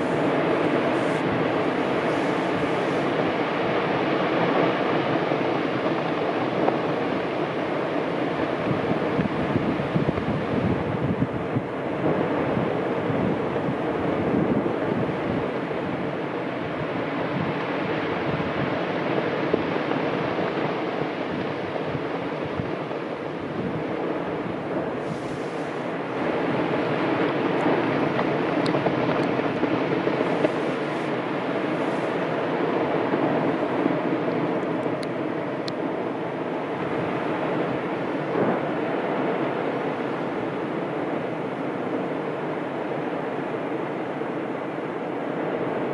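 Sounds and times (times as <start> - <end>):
lava fountain rushing: 0.0 - 45.9.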